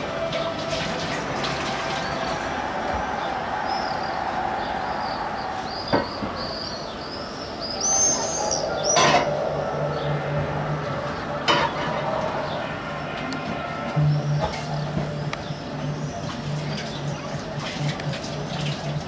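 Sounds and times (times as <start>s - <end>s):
steady noisy background: 0.0s - 19.0s
small birds chirping: 1.8s - 19.0s.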